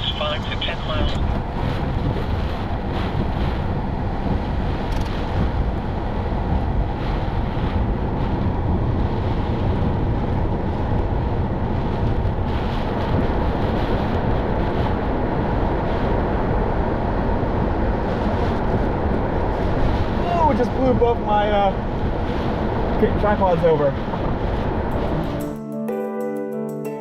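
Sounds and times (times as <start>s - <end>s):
strong wind blowing on microphone: 0.0s - 25.4s.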